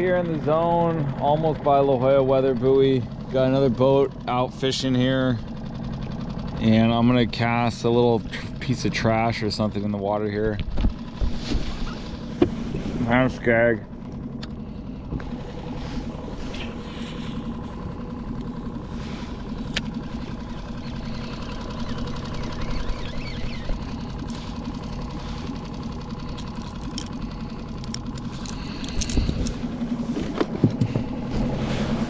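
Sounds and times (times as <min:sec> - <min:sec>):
outboard motor idling: 0:00.0 - 0:32.0.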